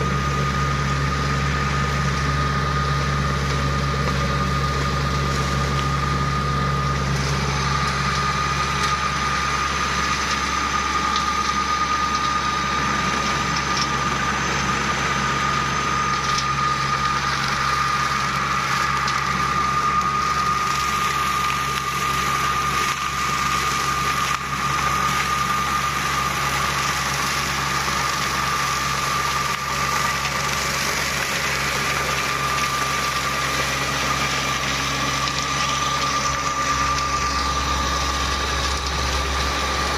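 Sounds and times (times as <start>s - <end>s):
small engine running: 0.0s - 39.9s
thin high whine: 0.0s - 39.9s.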